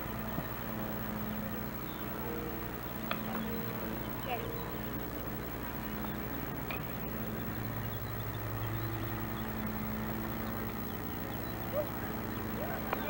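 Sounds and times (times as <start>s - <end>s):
held low tones: 0.0s - 13.0s
low mechanical hum: 0.0s - 13.0s.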